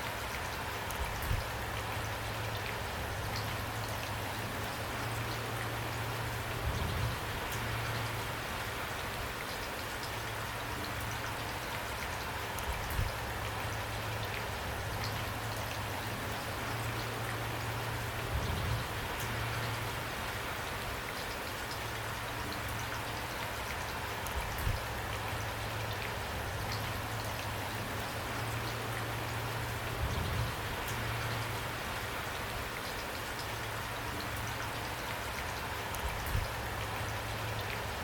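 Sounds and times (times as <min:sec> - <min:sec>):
rain patter on a surface: 0:00.0 - 0:38.0.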